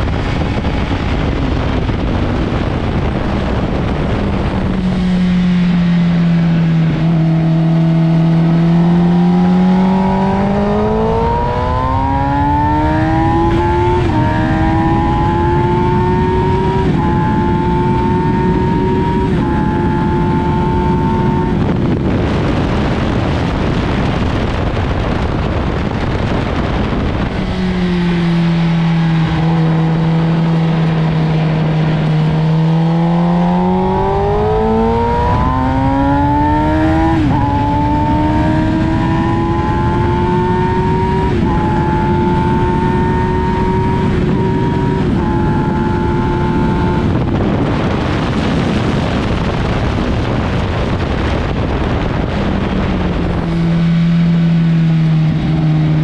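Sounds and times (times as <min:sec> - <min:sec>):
loud rushing noise: 0:00.0 - 0:56.0
motorcycle engine revving: 0:00.0 - 0:56.0.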